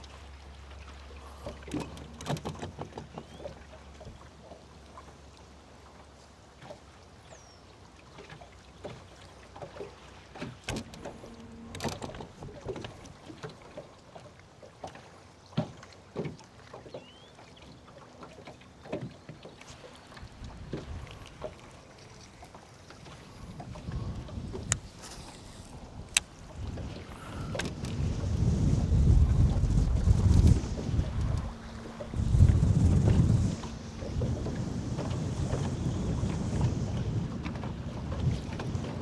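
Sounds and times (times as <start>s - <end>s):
gear knocking aboard boat: 0.0s - 39.0s
water slapping against boat hull: 0.8s - 5.2s, 8.1s - 39.0s.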